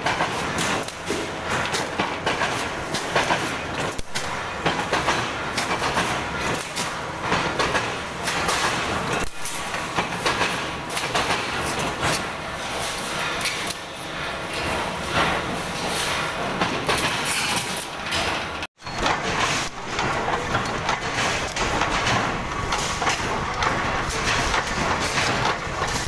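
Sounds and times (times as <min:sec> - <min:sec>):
shearing machine clatter: 0:00.0 - 0:26.0.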